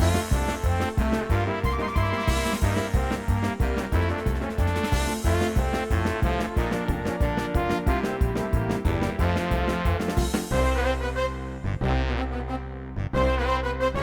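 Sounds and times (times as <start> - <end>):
jazzy brass-led music: 0.0 - 14.0.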